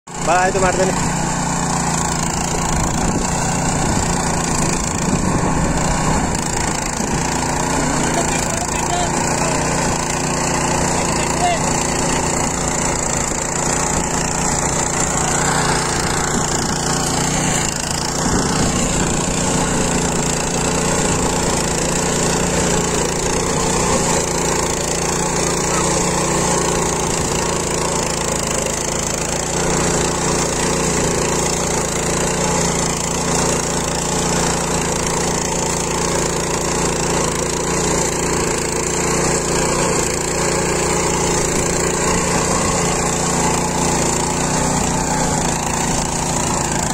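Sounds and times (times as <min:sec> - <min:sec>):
small engine running: 0:00.0 - 0:46.9
rotary tines churning soil: 0:00.1 - 0:46.9.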